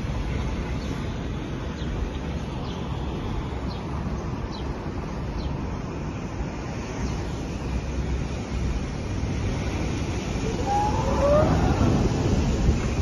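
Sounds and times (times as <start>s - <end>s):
strong wind through palm trees: 0.0s - 13.0s.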